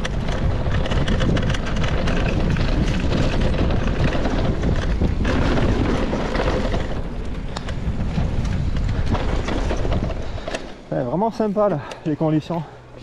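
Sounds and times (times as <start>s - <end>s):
wind rushing over microphone: 0.0s - 10.9s
bike rattling over stones: 0.0s - 11.7s
bike tyres rolling on dirt: 0.0s - 12.6s.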